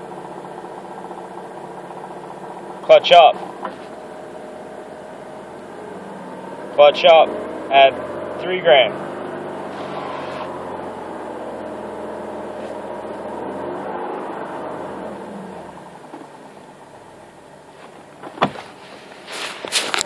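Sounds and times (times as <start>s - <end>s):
car engine revving: 0.0s - 19.1s.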